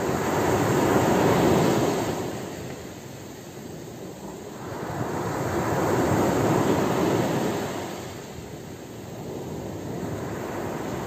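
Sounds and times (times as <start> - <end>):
waves washing on pebble beach: 0.0 - 11.0.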